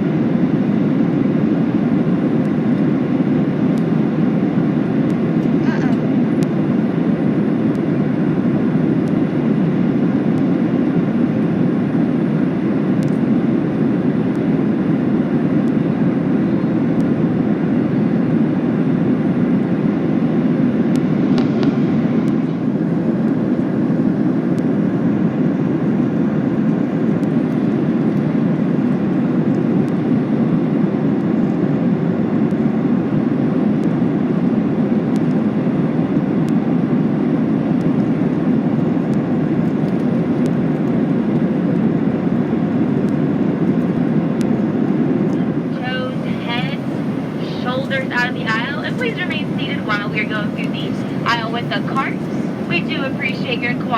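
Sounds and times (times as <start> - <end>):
airplane cabin engine noise: 0.0 - 53.9.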